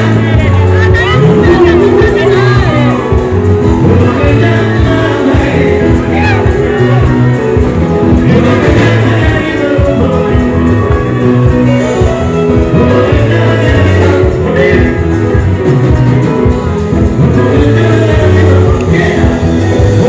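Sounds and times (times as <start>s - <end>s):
drum beat: 0.0s - 20.0s
heavy bass line: 0.0s - 20.0s
live band music with singing: 0.0s - 20.0s.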